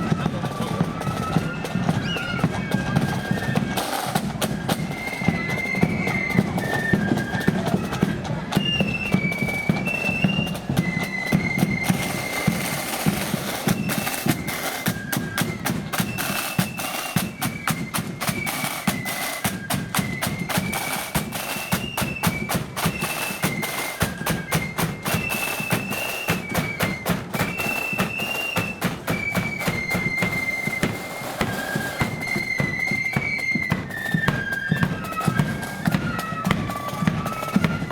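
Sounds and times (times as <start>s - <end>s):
flutes playing melody: 0.0s - 37.9s
snare drum strokes: 0.0s - 37.9s.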